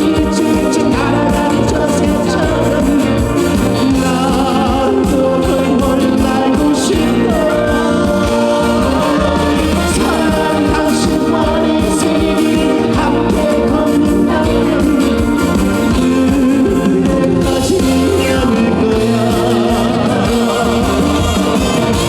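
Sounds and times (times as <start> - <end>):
instrumental accompaniment with beat: 0.0 - 22.0
man singing: 0.0 - 22.0.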